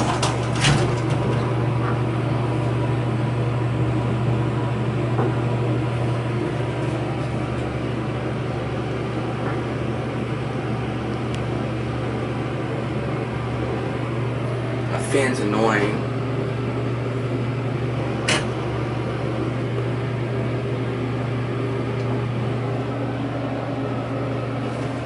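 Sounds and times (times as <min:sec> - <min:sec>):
ventilation fan drone: 0:00.0 - 0:25.0.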